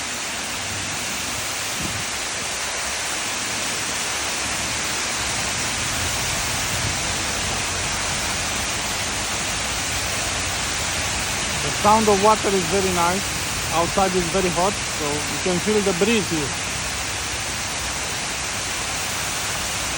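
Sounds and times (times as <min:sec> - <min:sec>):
waterfall splashing: 0:00.0 - 0:19.9.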